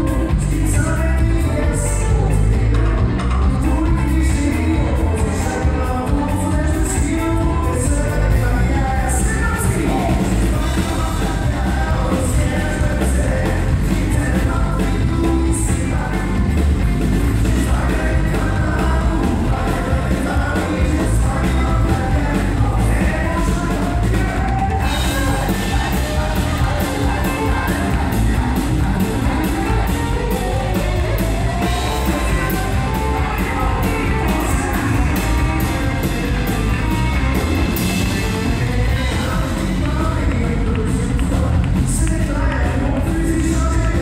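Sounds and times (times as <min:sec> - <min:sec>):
live country rock band: 0:00.0 - 0:44.0
person singing: 0:00.0 - 0:44.0.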